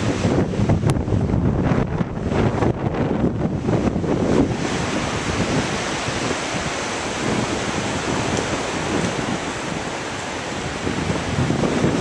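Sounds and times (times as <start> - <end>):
rushing wind: 0.0 - 12.0
wind buffeting microphone: 0.0 - 12.0.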